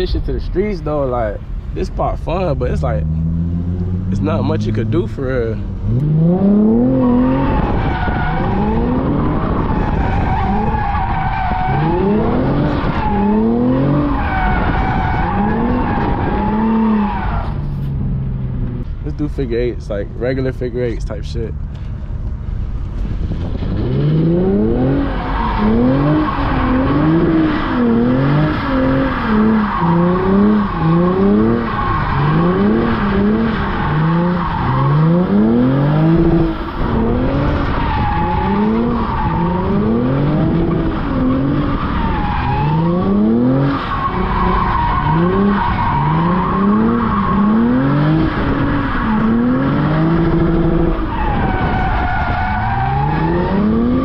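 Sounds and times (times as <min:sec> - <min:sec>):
car engine revving: 0:00.0 - 0:21.8, 0:22.4 - 0:54.0
tyres skidding and squealing: 0:00.0 - 0:21.9, 0:22.5 - 0:54.0.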